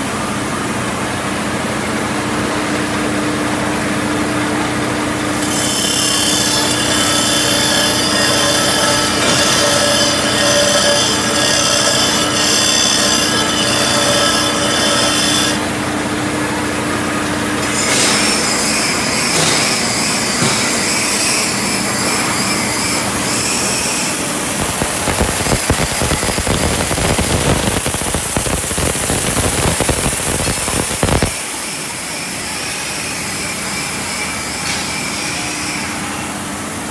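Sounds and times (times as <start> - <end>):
grinding wheel whine and hum: 0.0 - 36.9
workshop machine noise: 0.0 - 36.9.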